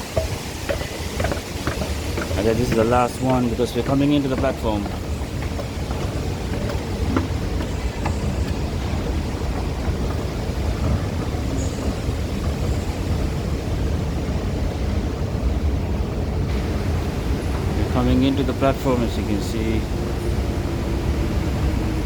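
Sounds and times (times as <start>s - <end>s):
station low rumble: 0.0s - 22.0s.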